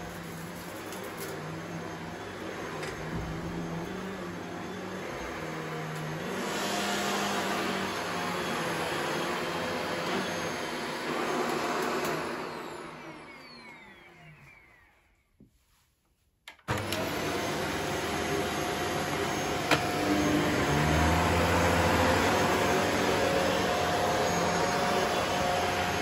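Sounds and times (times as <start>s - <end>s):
vacuum cleaner motor: 0.0s - 15.3s, 16.6s - 26.0s.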